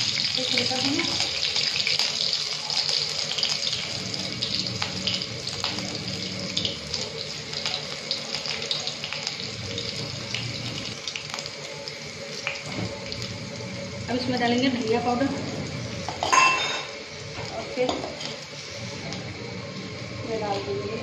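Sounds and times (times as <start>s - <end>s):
seeds sizzling in hot oil: 0.0s - 21.0s.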